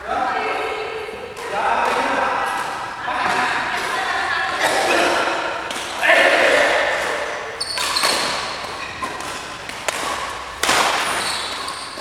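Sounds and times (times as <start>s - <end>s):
racket striking shuttlecock: 1.4s - 12.0s.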